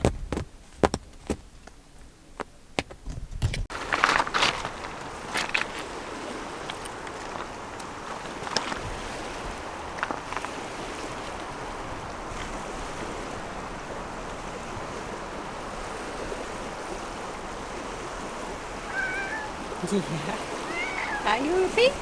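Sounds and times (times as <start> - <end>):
sea waves on shore: 3.7 - 22.0.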